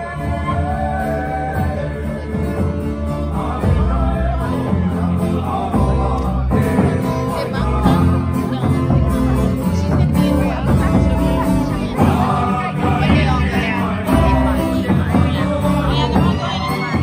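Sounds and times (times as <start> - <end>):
person singing: 0.0 - 17.0
strummed guitars: 0.0 - 17.0.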